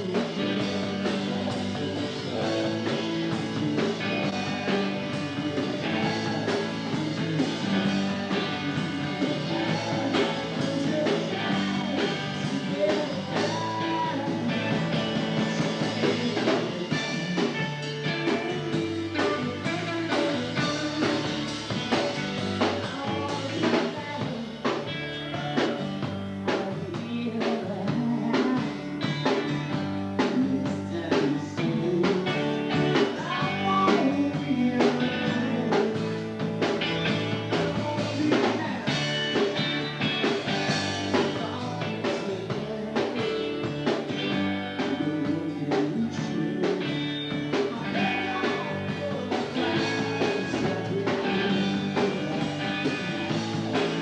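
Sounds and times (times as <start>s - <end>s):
rock music with guitar bass and drums: 0.0s - 54.0s.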